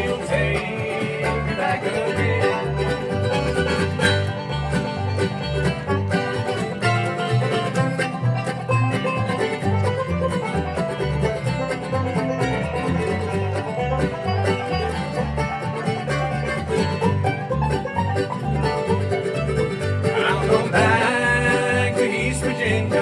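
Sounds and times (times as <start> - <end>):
acoustic guitar: 0.0 - 23.0
banjo picking: 0.0 - 23.0
plucked upright bass: 0.0 - 23.0.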